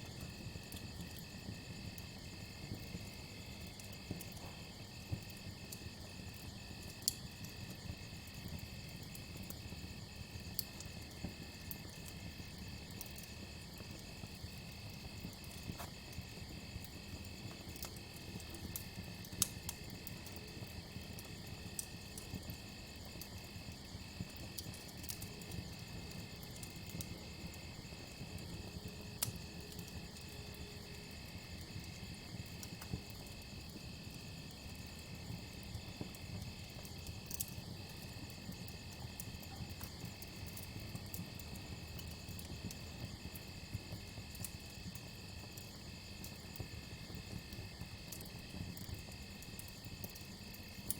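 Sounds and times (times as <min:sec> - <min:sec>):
campfire crackling and popping: 0:00.1 - 0:50.9.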